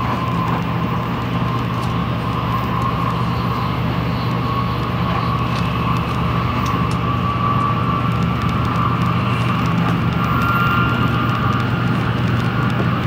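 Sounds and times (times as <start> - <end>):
faint whine: 0.0 - 13.0
train running noise in tunnel: 0.0 - 13.0.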